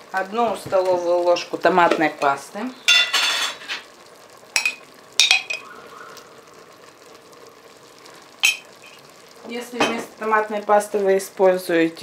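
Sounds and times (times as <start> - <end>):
faint sizzling: 0.0 - 12.0.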